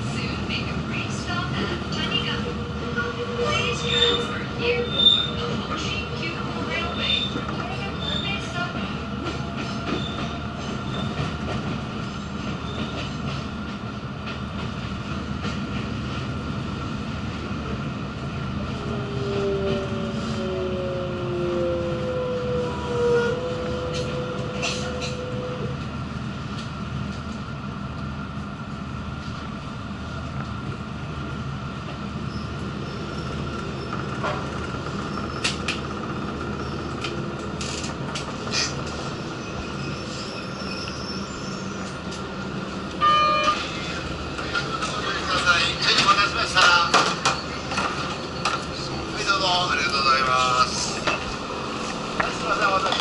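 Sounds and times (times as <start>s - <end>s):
standing train car hum: 0.0s - 53.0s
train car rumbling: 0.0s - 53.0s.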